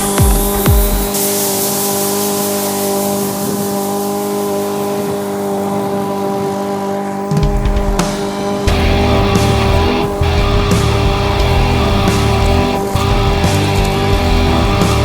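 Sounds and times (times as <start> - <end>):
mower engine running: 0.0 - 15.0.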